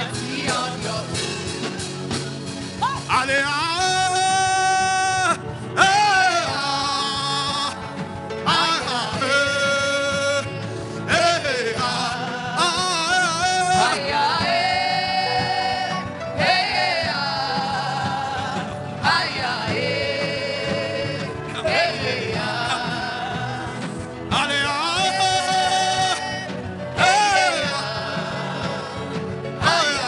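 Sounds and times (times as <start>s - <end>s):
wordless singing with vibrato: 0.0s - 30.0s.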